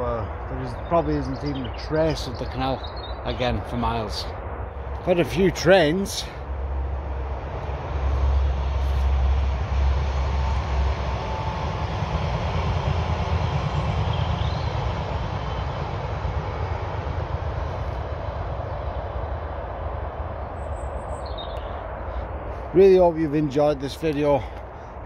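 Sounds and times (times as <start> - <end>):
passing vehicle rumble: 0.0 - 25.0.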